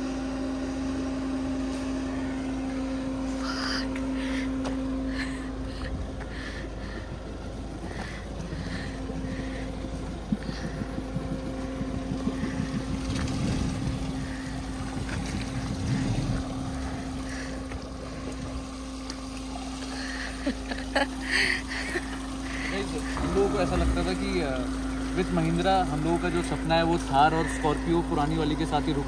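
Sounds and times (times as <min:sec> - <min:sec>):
suv engine running: 0:00.0 - 0:29.0
water churning and sloshing: 0:02.0 - 0:29.0.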